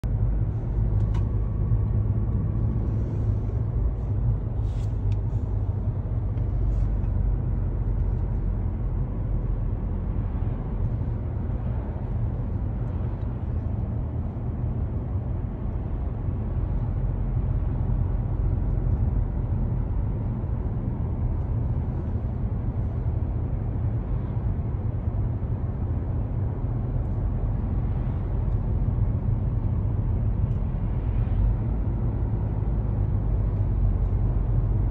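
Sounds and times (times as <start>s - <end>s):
car interior road rumble: 0.0s - 34.9s.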